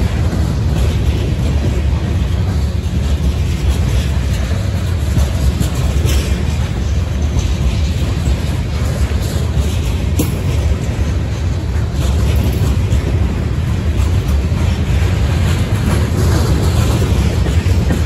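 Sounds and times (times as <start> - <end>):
train wheels rumbling on rails: 0.0 - 18.0
wheels clicking over track: 0.0 - 18.0.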